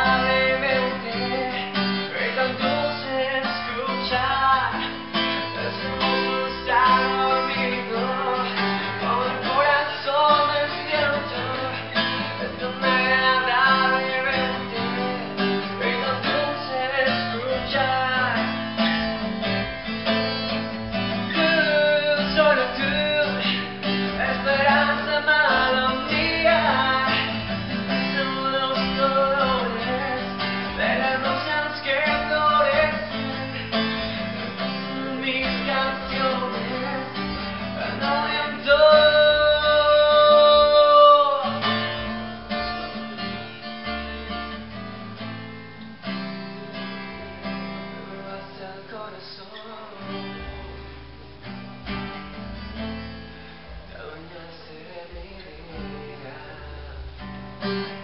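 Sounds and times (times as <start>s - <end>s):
acoustic guitar melody: 0.0s - 58.0s.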